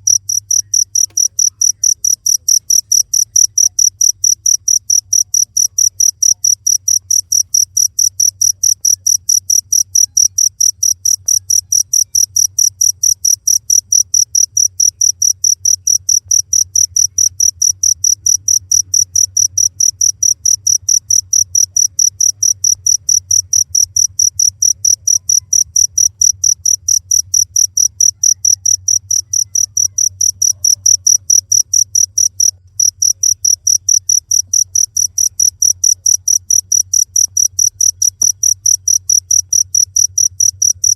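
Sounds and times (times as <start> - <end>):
cricket chirping: 0.0 - 40.9
faint low hum: 0.0 - 40.9.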